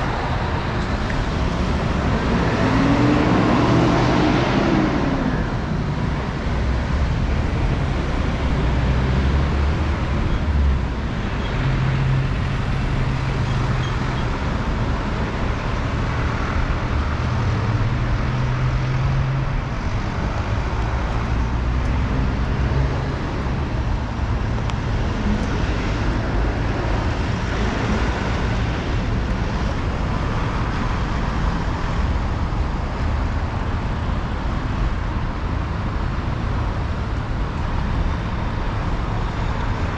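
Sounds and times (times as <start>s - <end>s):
rumble of cars and engines: 0.0s - 39.9s.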